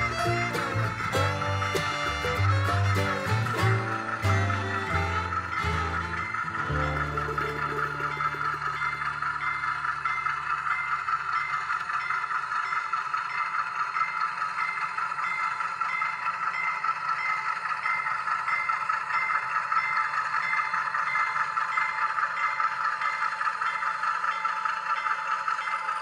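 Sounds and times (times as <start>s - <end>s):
model train wheels rattling on rails: 0.0s - 26.0s.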